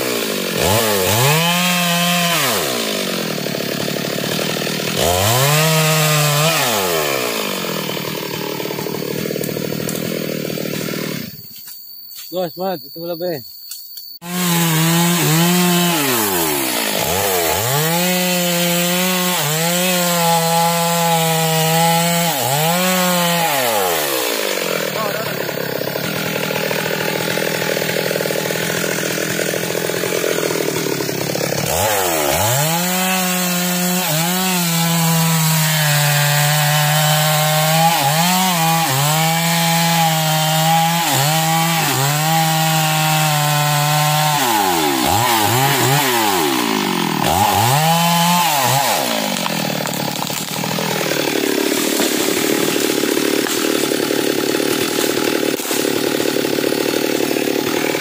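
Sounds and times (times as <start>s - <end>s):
chainsaw cutting tree trunk: 0.0s - 11.7s, 14.2s - 58.0s.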